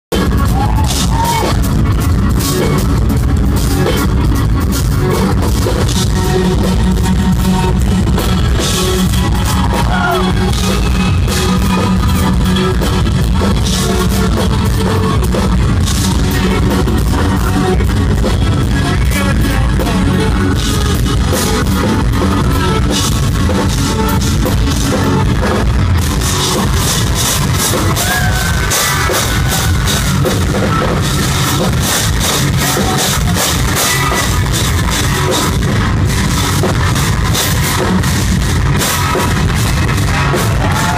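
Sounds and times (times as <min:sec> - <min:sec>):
distorted electric guitars: 0:00.1 - 0:40.9
drum kit: 0:00.1 - 0:40.9
live metal band playing: 0:00.1 - 0:40.9.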